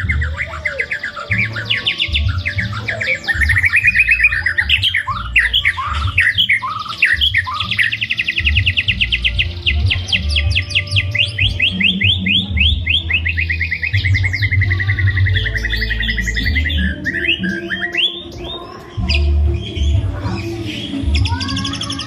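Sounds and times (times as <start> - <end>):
bird trilling fast notes: 0.0 - 22.0
songbird chirps and whistles: 0.0 - 22.0.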